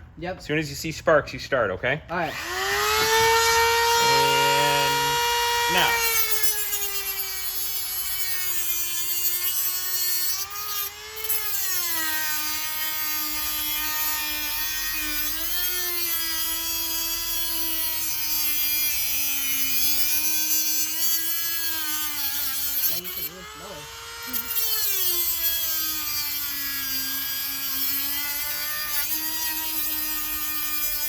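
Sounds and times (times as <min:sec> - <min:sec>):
rotary tool grinding metal: 0:02.3 - 0:31.0.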